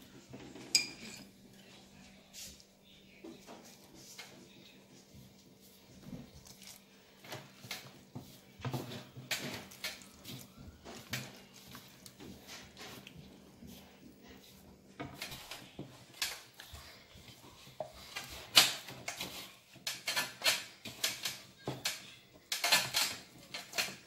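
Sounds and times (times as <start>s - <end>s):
dough squelching and slapping: 3.5s - 24.0s.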